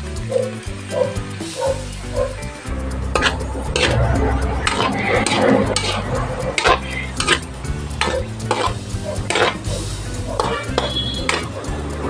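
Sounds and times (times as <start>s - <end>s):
metal utensil scraping a wok: 1.7s - 12.0s.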